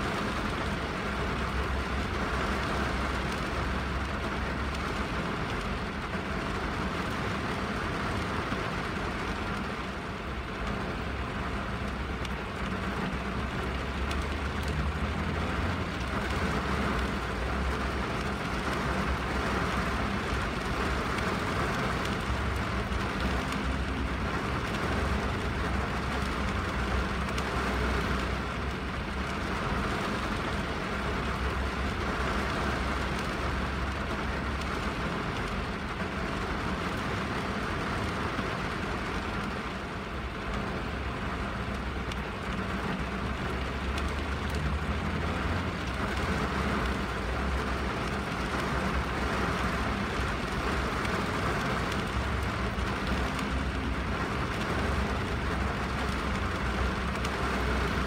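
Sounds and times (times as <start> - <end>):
rain on window and roof: 0.0 - 58.0.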